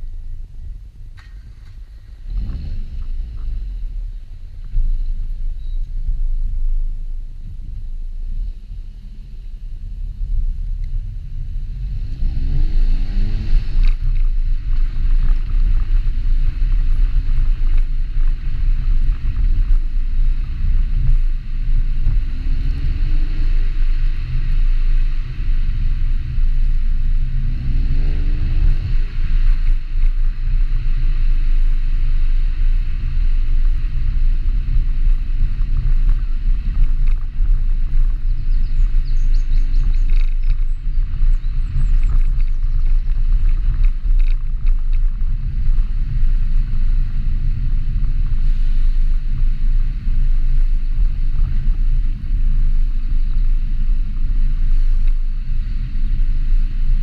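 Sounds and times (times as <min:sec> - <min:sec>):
car engine accelerating: 0:00.0 - 0:57.0
heavy low rumble: 0:00.0 - 0:57.0.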